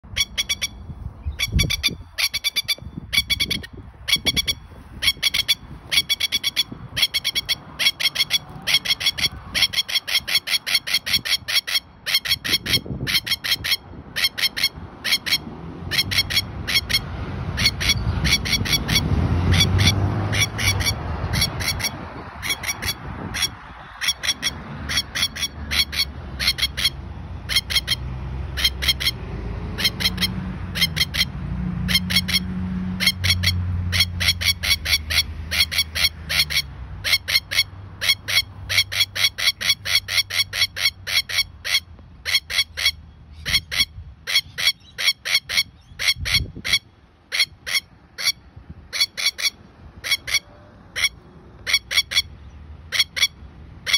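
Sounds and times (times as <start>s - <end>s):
road traffic rumble: 0.0s - 53.9s
lapwing harsh alarm calls: 0.1s - 53.9s.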